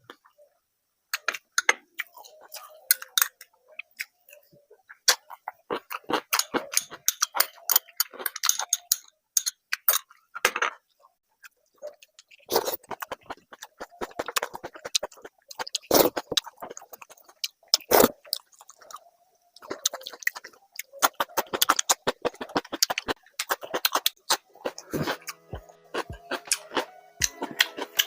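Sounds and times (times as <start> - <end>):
close-miked chewing and mouth sounds: 1.1 - 10.4, 11.0 - 28.0.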